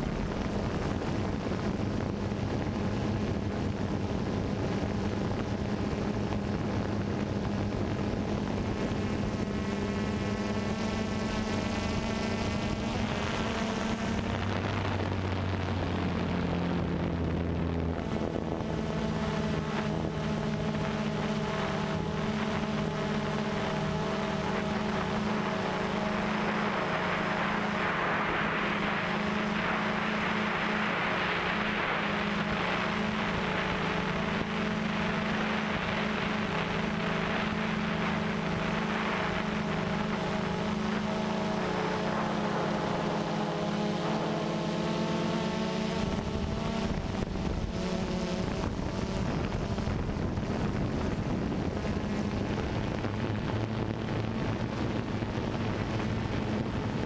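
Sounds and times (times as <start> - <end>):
drone propellers whining: 0.0 - 57.0
wind noise on microphone: 0.0 - 57.0.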